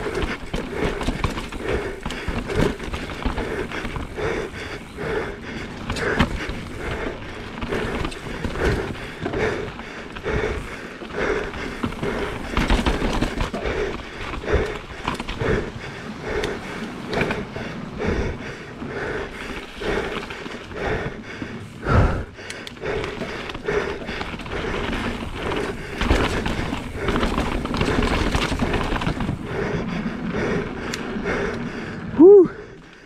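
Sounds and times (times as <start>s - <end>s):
bike tyre and frame rattle: 0.0s - 33.0s
rider breathing hard: 0.0s - 33.0s.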